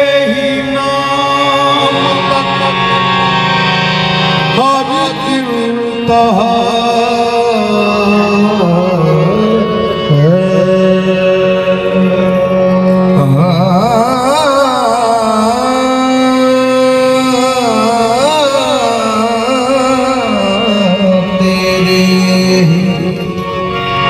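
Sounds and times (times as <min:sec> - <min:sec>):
person singing long ornamented notes: 0:00.0 - 0:24.0
sustained accompaniment: 0:00.0 - 0:24.0.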